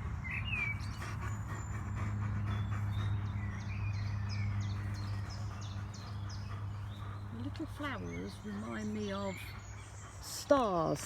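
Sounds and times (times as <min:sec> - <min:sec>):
small birds chirping and singing: 0:00.0 - 0:11.0.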